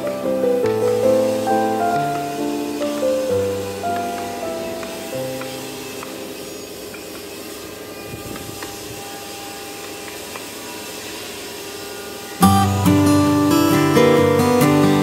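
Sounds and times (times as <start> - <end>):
steady workshop hiss: 0.0 - 15.0.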